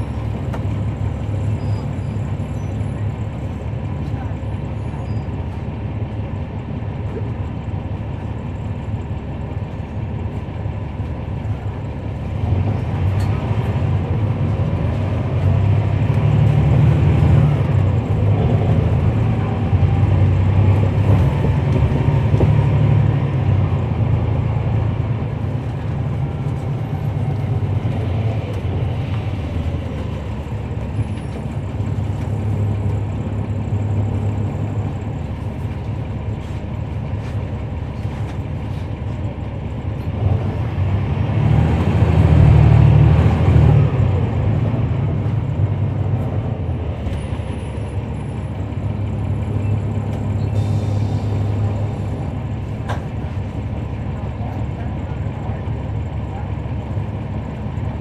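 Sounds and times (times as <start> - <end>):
bus diesel engine driving: 0.0 - 58.0.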